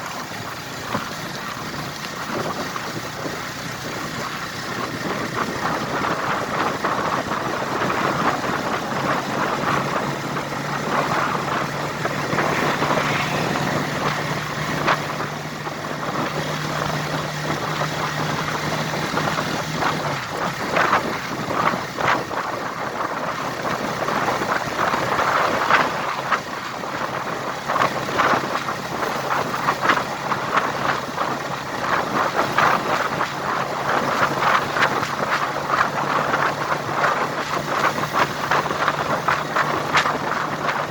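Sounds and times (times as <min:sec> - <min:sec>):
low engine hum: 0:00.0 - 0:40.9
wind buffeting microphone: 0:00.0 - 0:40.9.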